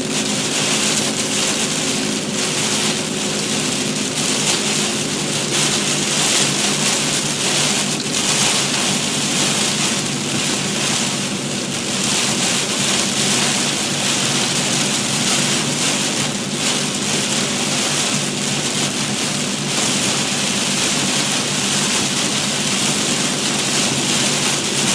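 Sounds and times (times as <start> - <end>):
car engine drone: 0.0 - 24.9
heavy rain on a car: 0.0 - 24.9.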